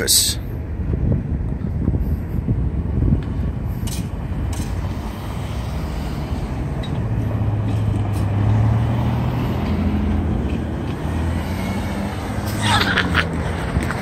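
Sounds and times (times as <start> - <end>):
road noise: 0.0 - 14.0
car engine hum: 0.1 - 14.0.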